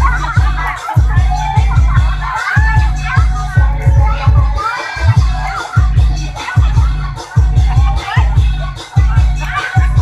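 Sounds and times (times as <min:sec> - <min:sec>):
loud dance music: 0:00.0 - 0:10.0
pounding bass beat: 0:00.0 - 0:10.0.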